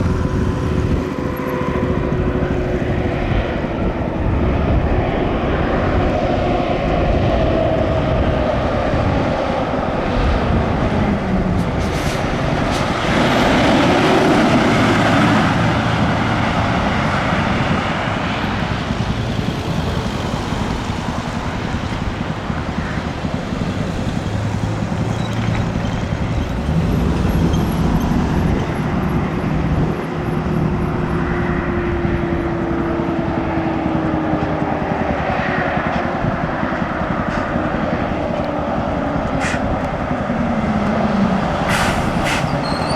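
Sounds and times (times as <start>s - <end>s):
heavy vehicles driving past: 0.0s - 42.9s.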